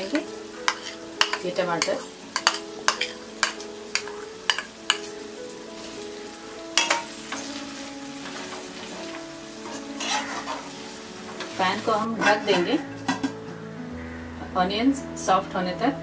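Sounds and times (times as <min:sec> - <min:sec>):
vegetables sizzling in oil: 0:00.0 - 0:13.4.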